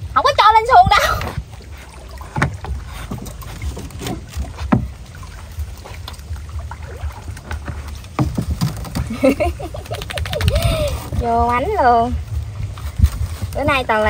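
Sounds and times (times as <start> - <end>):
knocks and splashes: 0.0 - 14.0
low rumble: 0.0 - 14.0.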